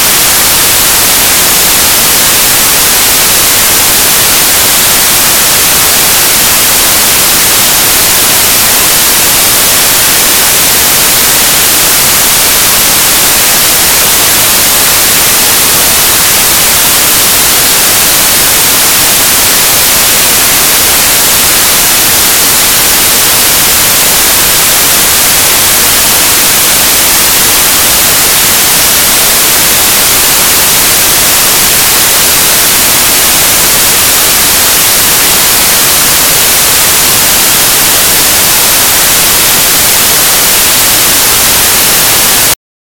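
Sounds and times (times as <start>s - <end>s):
static hiss: 0.0s - 42.6s.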